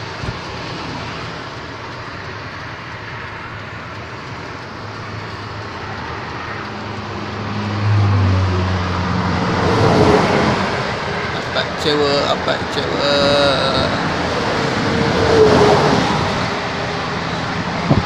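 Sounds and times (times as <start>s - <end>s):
traffic and road noise: 0.0s - 18.0s
vehicle engine drone: 0.0s - 18.0s.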